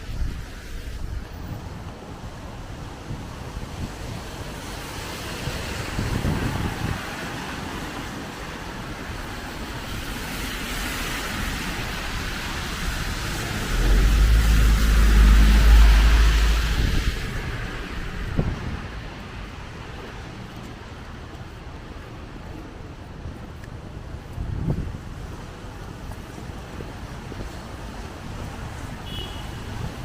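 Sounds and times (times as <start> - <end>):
steady rain: 0.0 - 30.0
vehicle rumble: 0.0 - 30.0
wind: 0.0 - 30.0.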